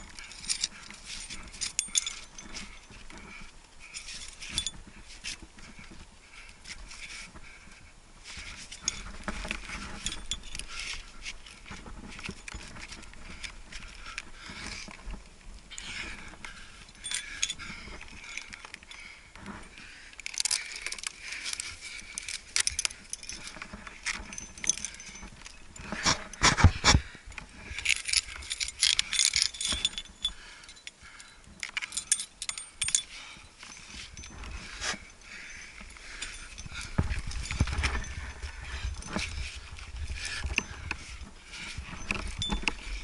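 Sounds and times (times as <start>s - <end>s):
climbing gear jangling and clinking: 0.0s - 43.0s.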